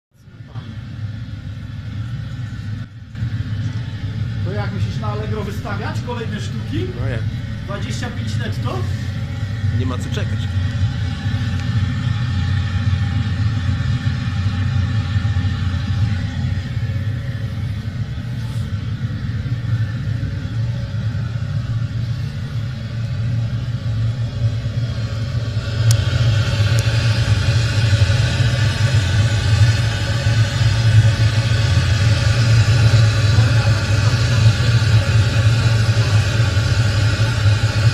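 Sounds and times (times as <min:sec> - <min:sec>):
burner flame and blower rumble: 0:00.2 - 0:37.9.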